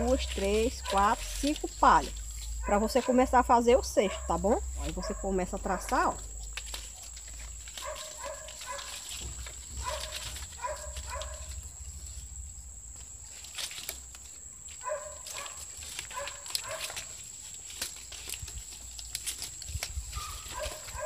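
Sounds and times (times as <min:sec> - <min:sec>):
palm leaves crackling and rustling: 0:00.0 - 0:21.0.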